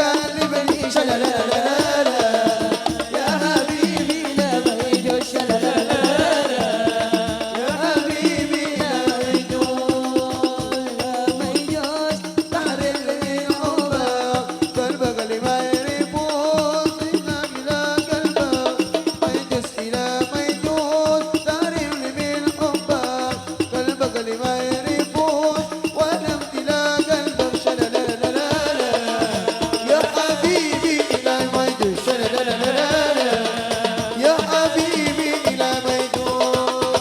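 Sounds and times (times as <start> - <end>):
quick hand-drum beat: 0.0 - 37.0.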